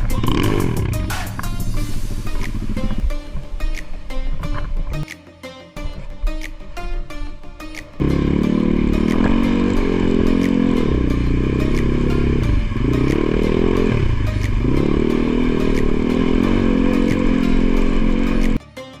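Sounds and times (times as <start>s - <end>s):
motorcycle engine revving: 0.0s - 5.0s, 8.0s - 18.6s.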